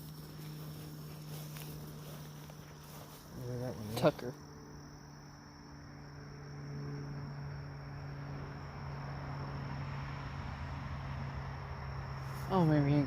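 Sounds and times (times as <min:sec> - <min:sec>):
crickets trilling: 0:00.0 - 0:13.0
low steady hum: 0:00.0 - 0:13.0.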